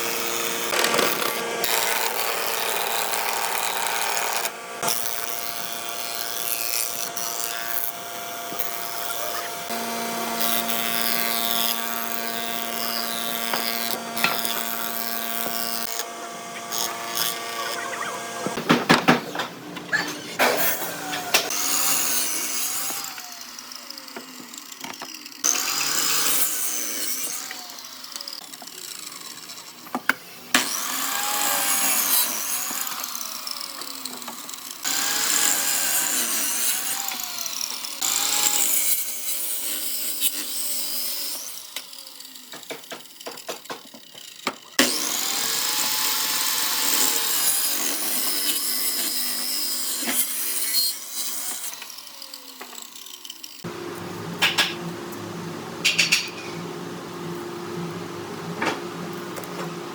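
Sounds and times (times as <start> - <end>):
power tool cutting wood: 0.0 - 59.9.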